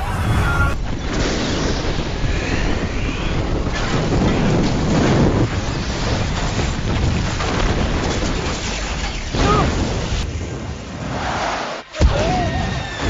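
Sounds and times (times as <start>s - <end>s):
explosion rumble: 0.0s - 11.2s.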